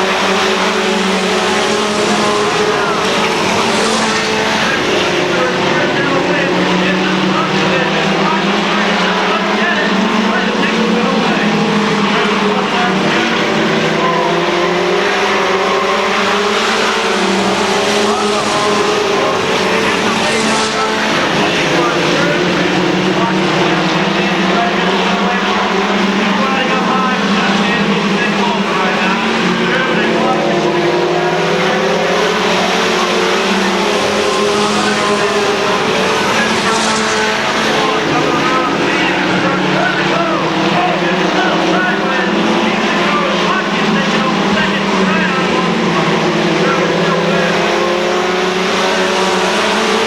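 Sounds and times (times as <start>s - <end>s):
race truck engines droning: 0.0s - 50.0s.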